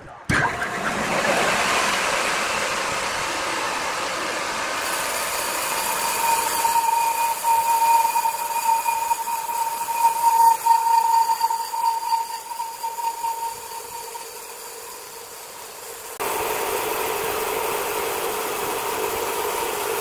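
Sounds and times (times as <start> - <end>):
high whine: 0.0 - 20.0
band saw cutting log: 0.3 - 16.4.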